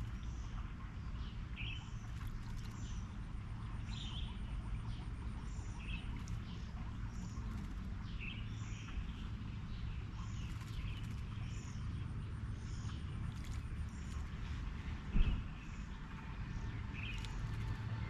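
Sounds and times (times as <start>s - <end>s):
birds chirping: 0.0s - 18.0s
low background rumble: 0.0s - 18.0s.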